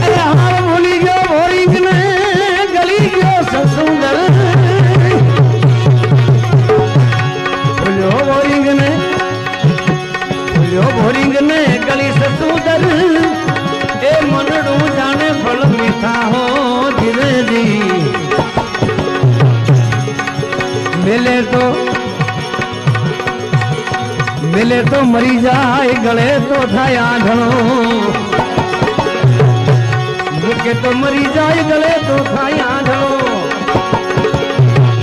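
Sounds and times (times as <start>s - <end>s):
tabla drumming: 0.0s - 35.0s.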